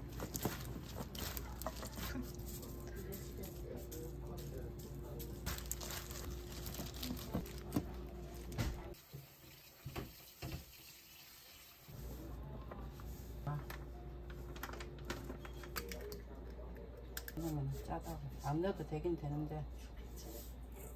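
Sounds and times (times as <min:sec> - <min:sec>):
low kitchen hum: 0:00.0 - 0:20.9.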